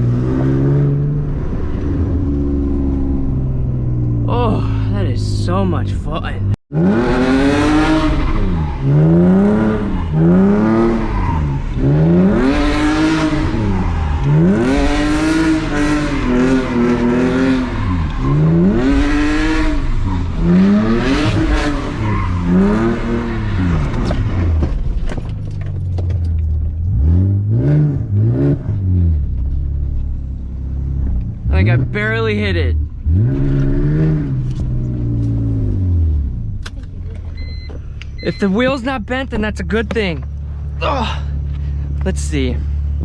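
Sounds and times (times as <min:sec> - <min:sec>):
car engine revving: 0:00.0 - 0:25.6, 0:26.2 - 0:43.0.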